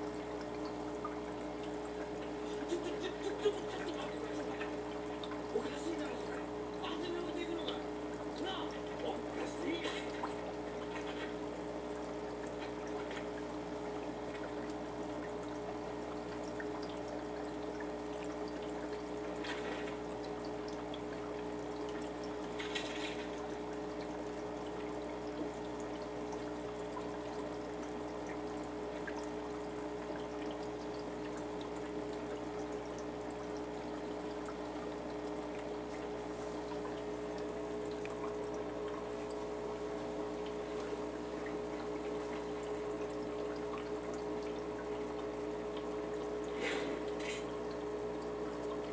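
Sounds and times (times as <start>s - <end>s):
pump motor hum: 0.0s - 48.9s
water trickling and splashing: 0.0s - 48.9s.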